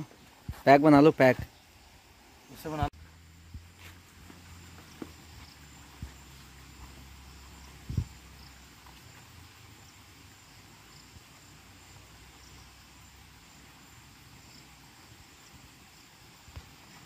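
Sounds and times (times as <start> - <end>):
quiet hiss: 0.0 - 17.0.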